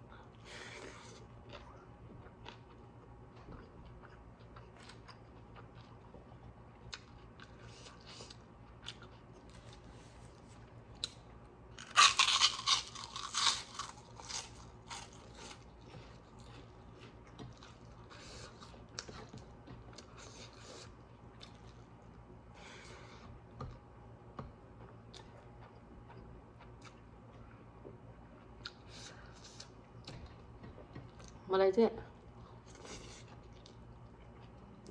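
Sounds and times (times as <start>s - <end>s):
chewing and crunching: 0.2s - 23.8s, 24.7s - 31.4s, 32.3s - 34.9s.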